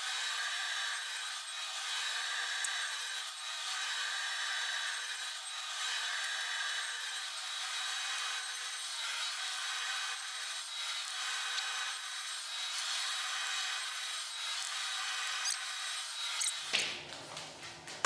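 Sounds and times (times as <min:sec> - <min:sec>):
circular saw cutting board: 0:00.1 - 0:17.0.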